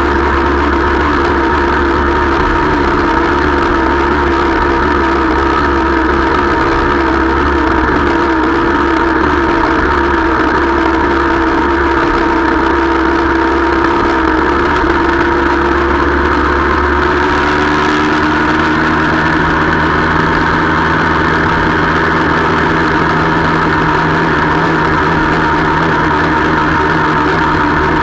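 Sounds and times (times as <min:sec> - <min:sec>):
motorcycle engine running: 0:00.0 - 0:28.0
wind and road rush: 0:00.0 - 0:28.0.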